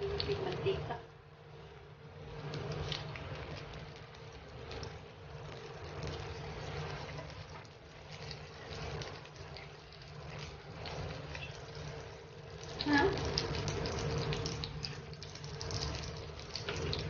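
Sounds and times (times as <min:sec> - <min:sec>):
omelette sizzling in a frying pan: 0:01.4 - 0:17.0.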